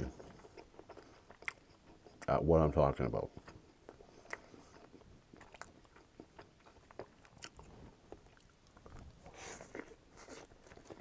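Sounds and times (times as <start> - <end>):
chewing noodles: 0.0 - 2.4, 3.3 - 11.0.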